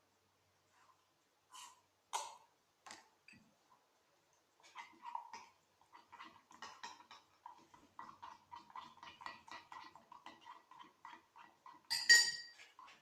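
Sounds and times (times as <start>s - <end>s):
spoon stirring sticky slime: 0.7s - 3.4s, 4.6s - 13.0s.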